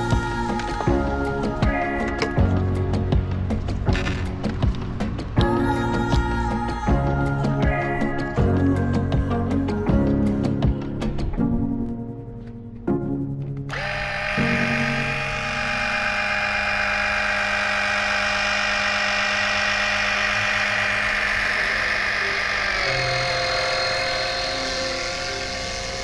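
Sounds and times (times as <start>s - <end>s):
electric pump whining: 0.0s - 11.4s, 13.7s - 26.0s.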